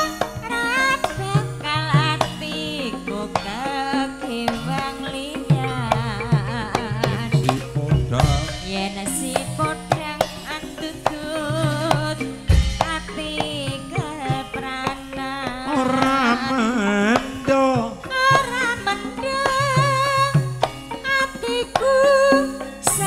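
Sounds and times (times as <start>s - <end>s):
hand drum strokes: 0.0s - 23.0s
metallophone tones: 0.0s - 23.0s
person singing ornamented vocals: 0.0s - 23.0s.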